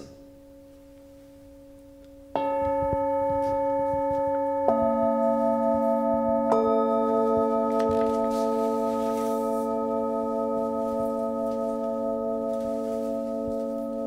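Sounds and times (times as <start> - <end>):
singing bowls ringing: 0.1 - 14.0.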